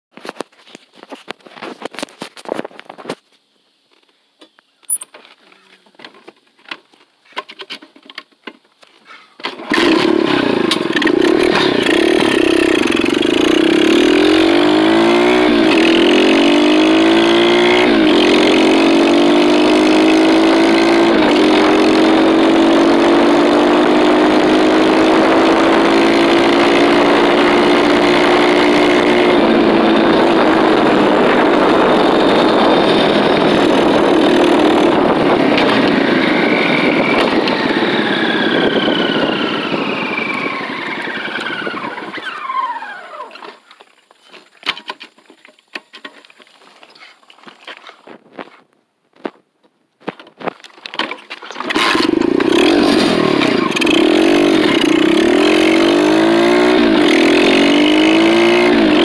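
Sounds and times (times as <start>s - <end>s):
dirt bike engine shifting gears: 9.4s - 48.6s, 50.0s - 59.0s.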